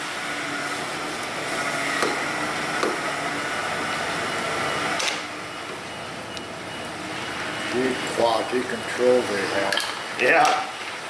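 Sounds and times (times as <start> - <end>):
steady machine whir: 0.0 - 10.2.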